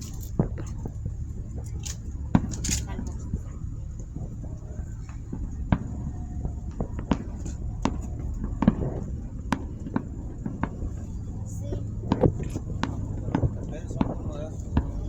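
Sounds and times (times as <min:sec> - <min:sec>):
fireworks pops and cracks: 0:00.0 - 0:15.0
low steady rumble: 0:00.0 - 0:15.0.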